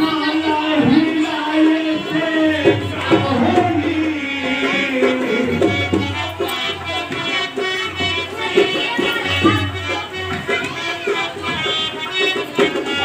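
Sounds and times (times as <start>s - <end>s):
man singing through loudspeaker: 0.0s - 13.0s.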